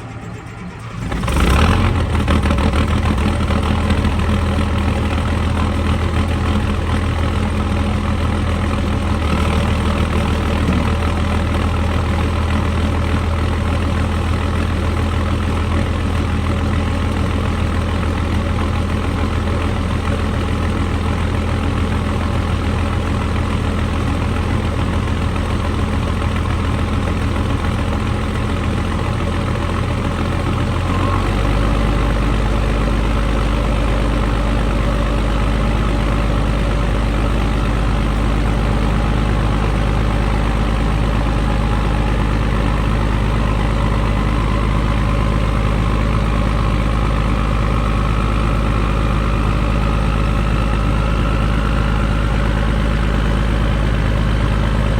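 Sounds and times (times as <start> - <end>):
diesel truck engine idling: 0.0 - 54.9.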